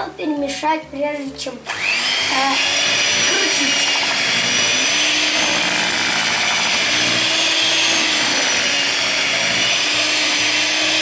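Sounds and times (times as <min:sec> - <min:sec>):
electric hand mixer running: 0:01.7 - 0:11.0.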